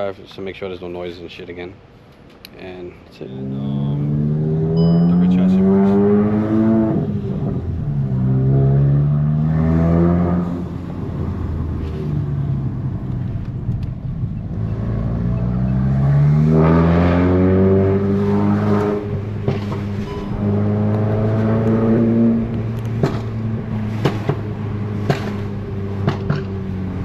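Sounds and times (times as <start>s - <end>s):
car engine accelerating: 3.3s - 27.0s.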